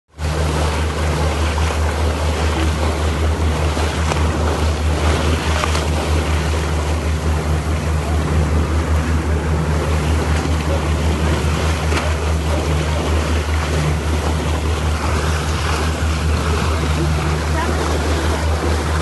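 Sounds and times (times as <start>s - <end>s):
boat engine drone: 0.1s - 19.0s
wake rushing along hull: 0.1s - 19.0s.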